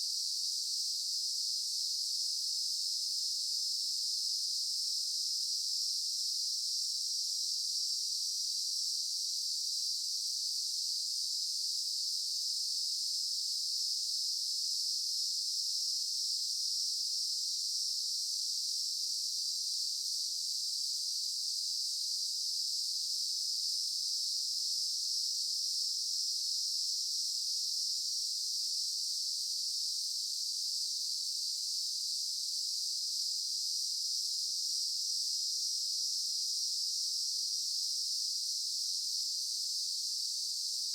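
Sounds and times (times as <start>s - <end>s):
insect chorus drone: 0.1s - 40.9s.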